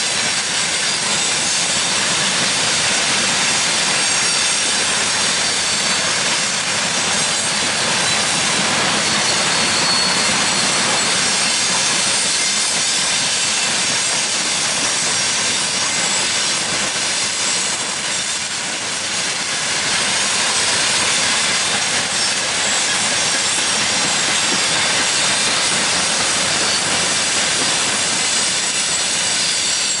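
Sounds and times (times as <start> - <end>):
freight train wheels on rails: 0.0 - 30.0.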